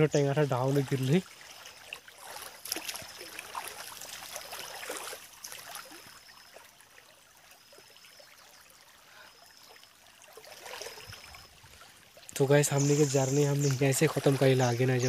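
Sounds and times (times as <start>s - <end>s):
stream trickling: 0.0s - 15.0s.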